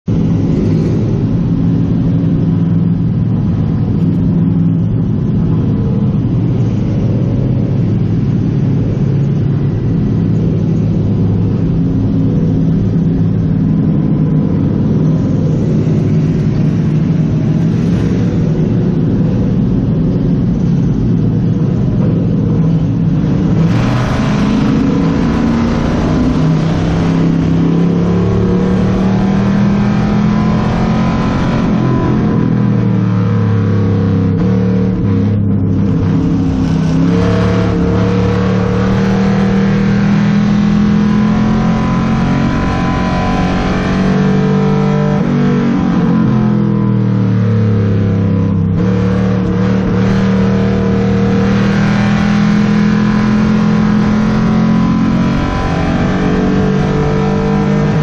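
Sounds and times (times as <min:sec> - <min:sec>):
car engine running from inside: 0:00.0 - 0:58.0.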